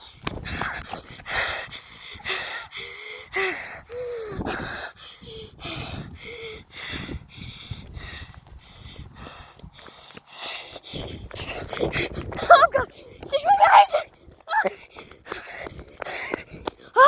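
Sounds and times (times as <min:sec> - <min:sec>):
child panting hard: 0:00.0 - 0:17.0.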